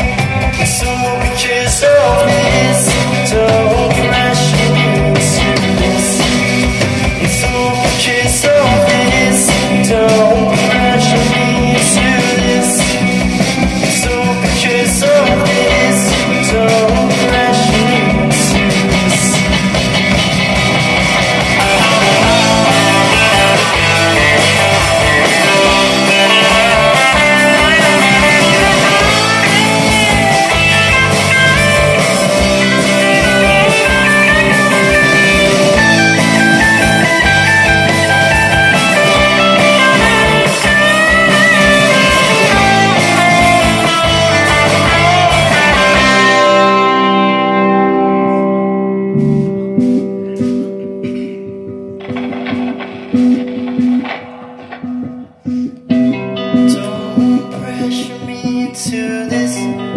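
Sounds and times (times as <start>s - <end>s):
drums: 0.0s - 59.9s
electric bass: 0.0s - 59.9s
electric guitars: 0.0s - 59.9s.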